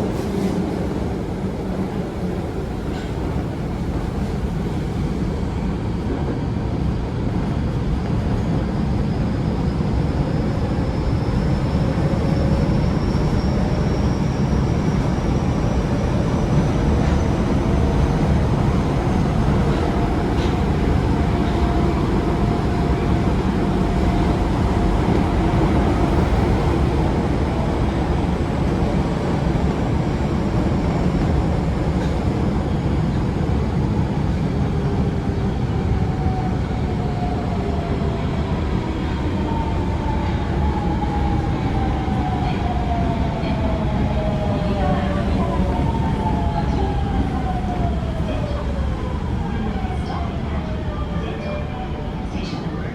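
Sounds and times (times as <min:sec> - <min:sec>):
subway train rumbling: 0:00.0 - 0:52.9.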